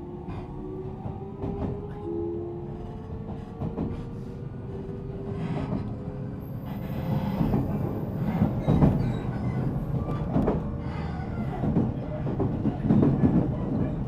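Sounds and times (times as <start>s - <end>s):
train running rumble: 2.7s - 14.0s.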